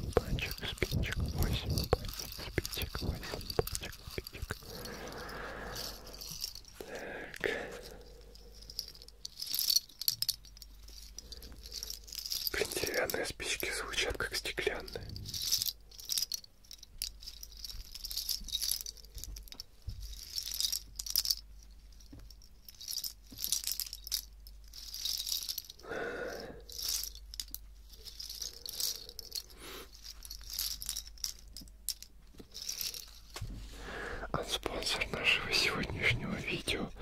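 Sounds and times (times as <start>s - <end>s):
wooden pieces clicking in hands: 0.0s - 25.9s, 26.6s - 33.3s.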